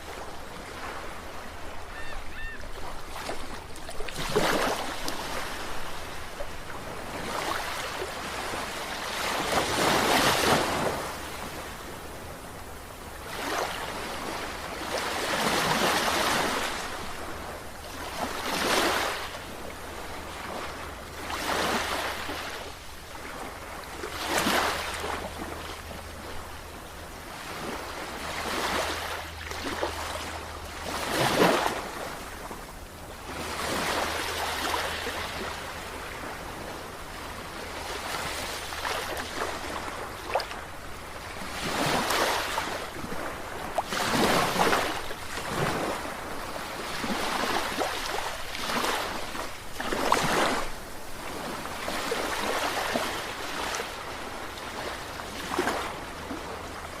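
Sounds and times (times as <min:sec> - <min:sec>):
sea waves breaking: 0:00.0 - 0:12.5, 0:13.1 - 0:57.0.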